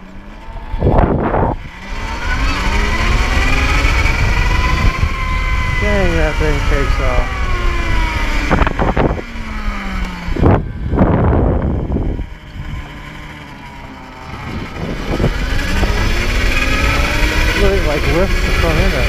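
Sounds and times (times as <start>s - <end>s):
electric motorbike drive whining: 0.0s - 19.0s.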